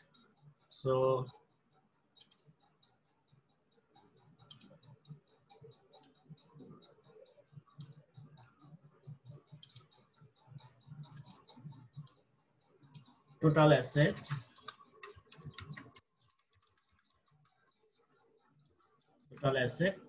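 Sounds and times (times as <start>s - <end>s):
fast even ticking: 0.0s - 20.0s.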